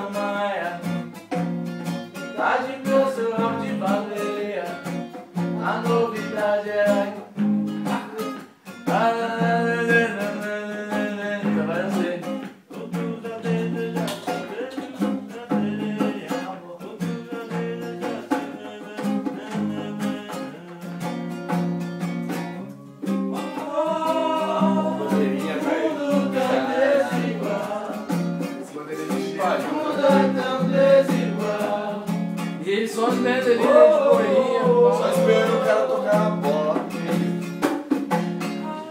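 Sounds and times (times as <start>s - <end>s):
man singing: 0.0s - 1.2s, 2.2s - 4.9s, 5.5s - 21.4s, 22.6s - 37.5s, 38.5s - 38.9s
acoustic guitar strumming: 0.0s - 38.9s.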